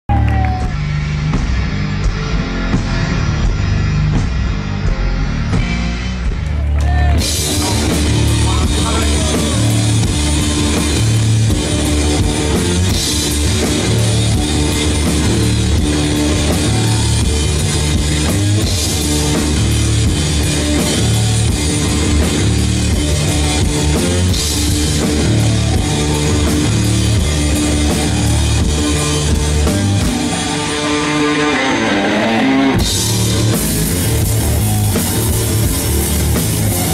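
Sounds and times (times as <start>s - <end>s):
drum kit: 0.1s - 36.9s
electric guitar: 0.1s - 36.9s.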